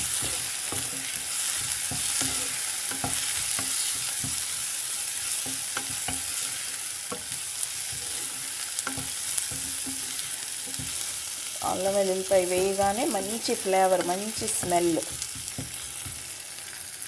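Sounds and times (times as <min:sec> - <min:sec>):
wooden spatula scraping a pan: 0:00.0 - 0:11.3, 0:14.0 - 0:16.4
food sizzling in oil: 0:00.0 - 0:17.0.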